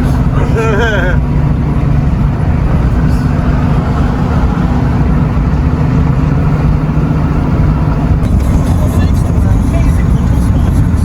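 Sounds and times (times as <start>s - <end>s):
faint engine hum: 0.0s - 11.0s
truck cab road noise drone: 0.0s - 11.0s.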